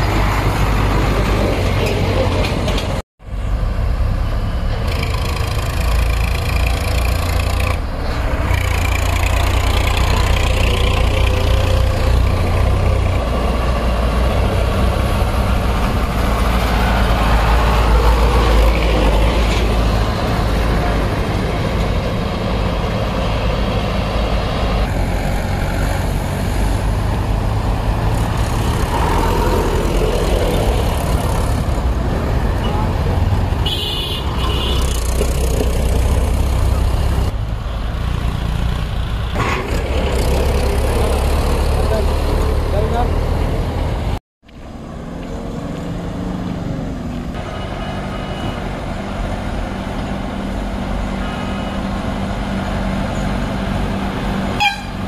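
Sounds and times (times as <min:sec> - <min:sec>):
heavy traffic engines rumbling: 0:00.0 - 0:55.0.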